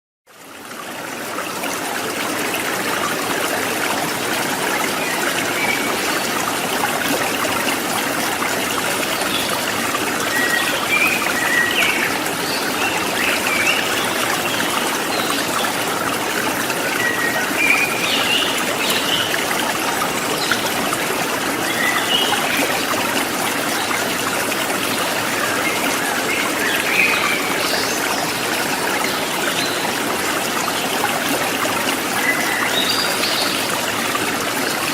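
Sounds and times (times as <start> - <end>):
stream running over rocks: 0.3 - 34.9.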